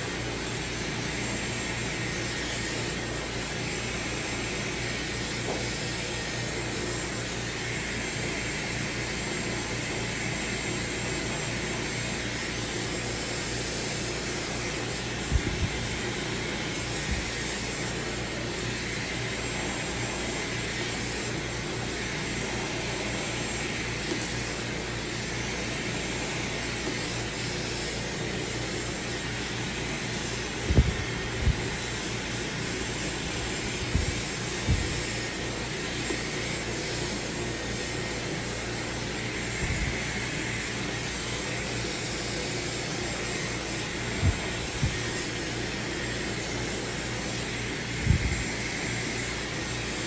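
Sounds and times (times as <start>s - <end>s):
hair dryer blowing: 0.0s - 50.0s.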